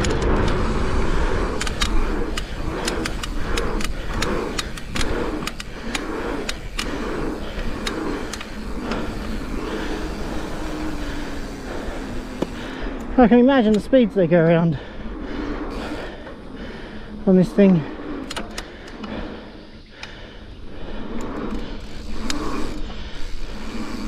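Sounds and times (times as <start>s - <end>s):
bike clicks and rattles: 0.0s - 24.0s
wind and tyre noise: 0.0s - 24.0s.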